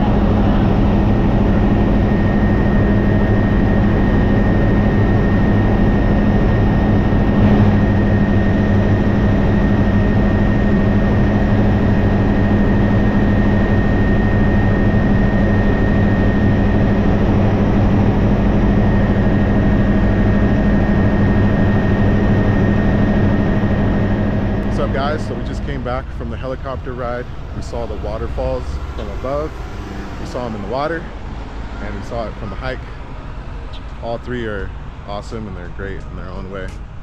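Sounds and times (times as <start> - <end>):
thin high whine: 0.0 - 36.6
helicopter engine and rotor drone: 0.0 - 37.0.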